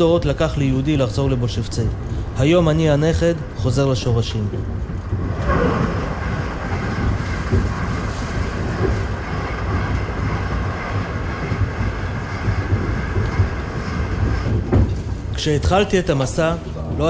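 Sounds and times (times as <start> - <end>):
train knocking: 0.0 - 17.0
train rumbling: 0.0 - 17.0.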